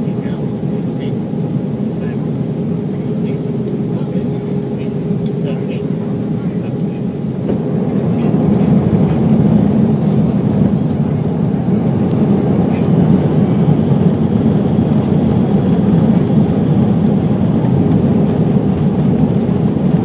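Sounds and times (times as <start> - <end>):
airliner cabin engine roar: 0.0 - 20.0.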